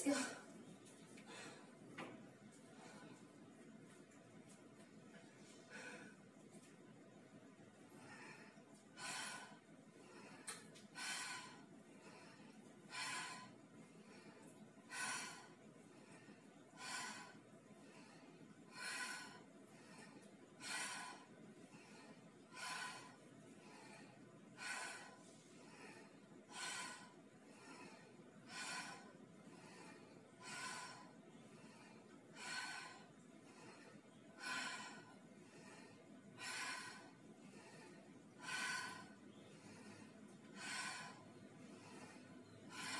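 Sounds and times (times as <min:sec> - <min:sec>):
faint room hiss: 0:00.0 - 0:42.9
woman breathing: 0:00.0 - 0:42.9.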